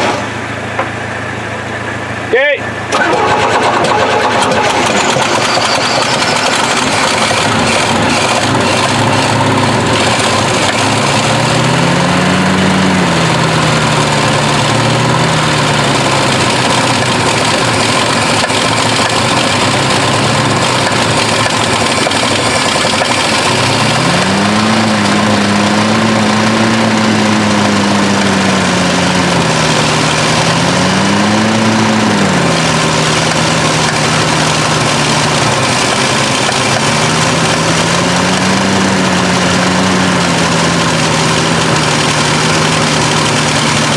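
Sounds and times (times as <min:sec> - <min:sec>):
truck engine with exhaust leak: 0:00.0 - 0:43.9.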